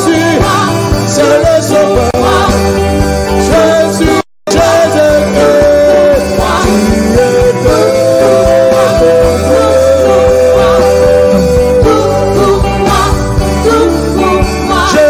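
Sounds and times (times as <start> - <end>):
band with bass and beat: 0.0 - 15.0.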